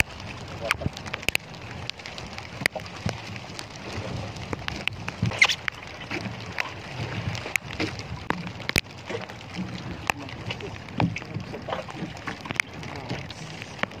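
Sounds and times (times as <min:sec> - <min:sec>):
low rumble of water and wind: 0:00.0 - 0:14.0
rain drops ticking on boat: 0:00.0 - 0:14.0
rain falling on sea: 0:00.0 - 0:14.0.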